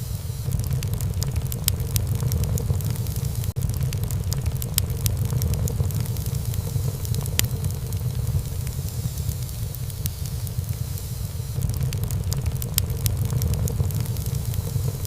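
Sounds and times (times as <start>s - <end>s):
burning wood crackling: 0.0s - 15.0s
low rumble of flames: 0.0s - 15.0s
loud pop of wood fire: 0.4s - 10.8s, 11.6s - 15.0s.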